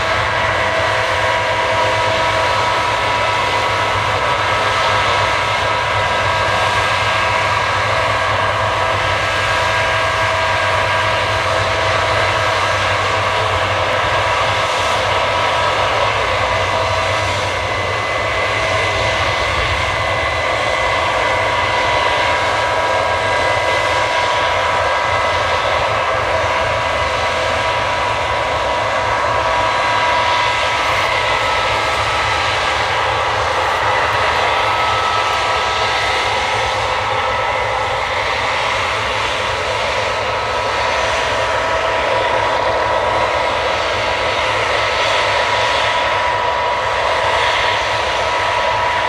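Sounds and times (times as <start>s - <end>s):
combine harvester running: 0.0s - 49.0s.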